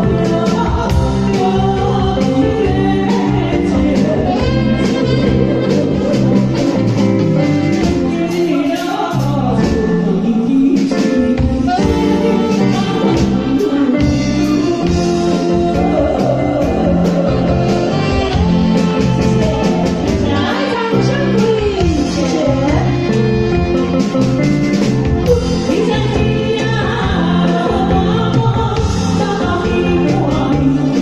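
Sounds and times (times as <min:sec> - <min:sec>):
woman singing into microphone: 0:00.0 - 0:06.8, 0:07.4 - 0:24.2, 0:25.1 - 0:31.0
electric guitar: 0:00.0 - 0:31.0
keyboard: 0:00.0 - 0:31.0.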